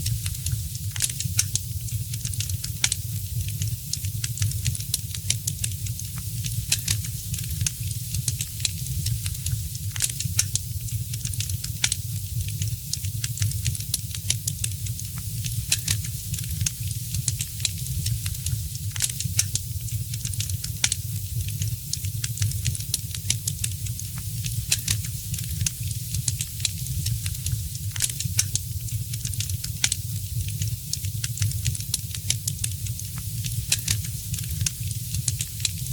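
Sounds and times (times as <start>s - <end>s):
low rumble and hiss of logs: 0.0s - 35.9s
wood fire crackling: 0.0s - 35.9s.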